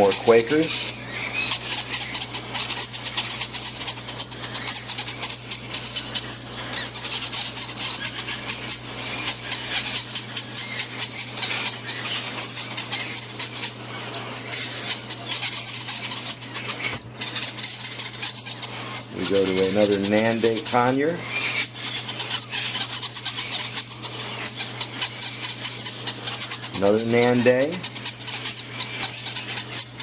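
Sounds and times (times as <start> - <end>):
parakeet chicks squeaking: 0.0 - 30.0.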